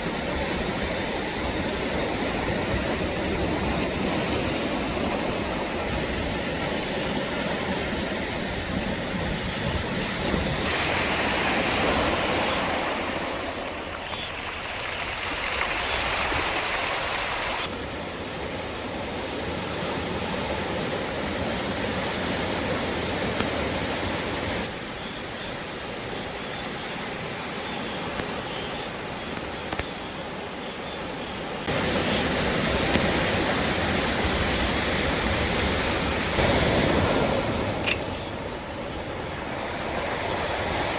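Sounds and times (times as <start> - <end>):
sea waves breaking on shore: 0.0 - 29.6, 31.4 - 40.9.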